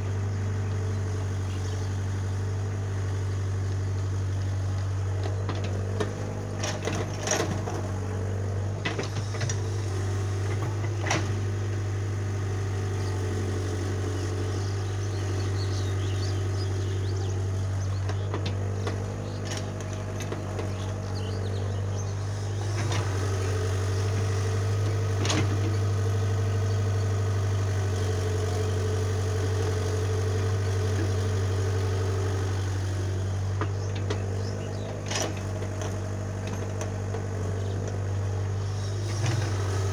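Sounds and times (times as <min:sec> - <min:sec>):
excavator diesel engine droning: 0:00.0 - 0:39.9
tractor engine idling: 0:00.0 - 0:39.9.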